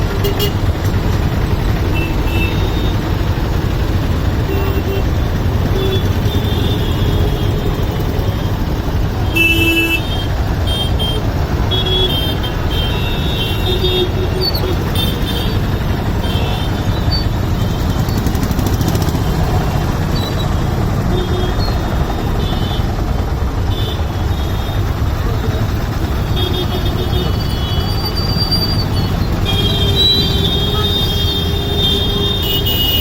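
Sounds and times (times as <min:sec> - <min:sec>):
vehicle engines rumbling: 0:00.0 - 0:33.0.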